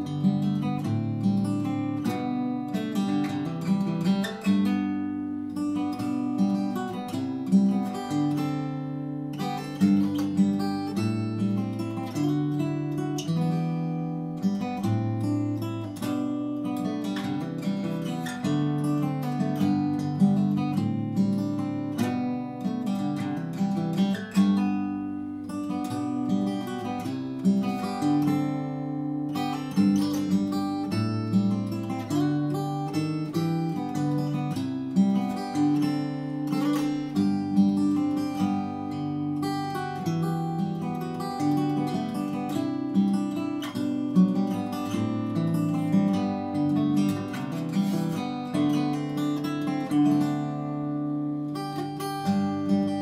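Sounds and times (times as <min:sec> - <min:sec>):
fingerstyle acoustic guitar: 0:00.0 - 0:53.0.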